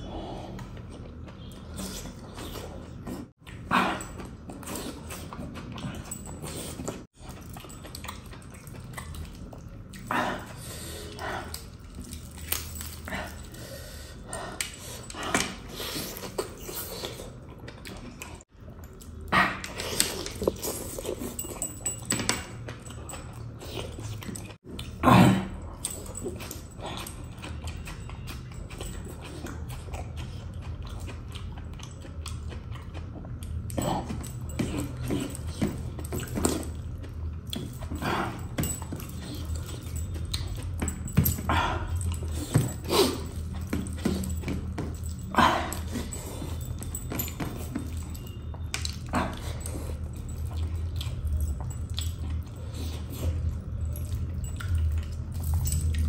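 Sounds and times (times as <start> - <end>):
chewing and smacking: 0.0 - 56.0.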